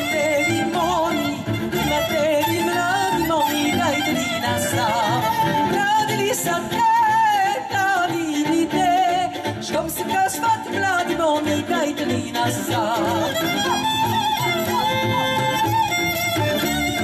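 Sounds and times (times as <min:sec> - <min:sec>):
woman singing: 0:00.0 - 0:15.0
fiddles playing: 0:00.0 - 0:17.0
plucked double bass: 0:00.0 - 0:17.0.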